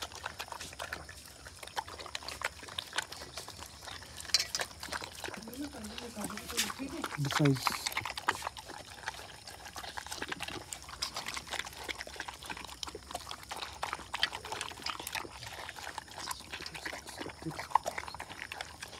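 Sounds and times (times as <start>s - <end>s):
puppy chewing wet food: 0.0s - 18.9s.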